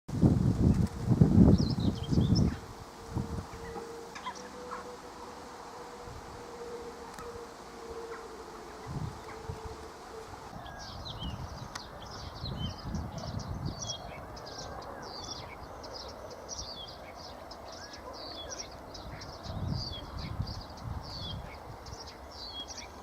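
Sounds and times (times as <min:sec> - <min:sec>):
wind rumble on microphone: 0:00.1 - 0:04.4, 0:05.9 - 0:17.8, 0:18.6 - 0:23.0
small songbirds chirping: 0:00.6 - 0:05.0, 0:06.3 - 0:23.0.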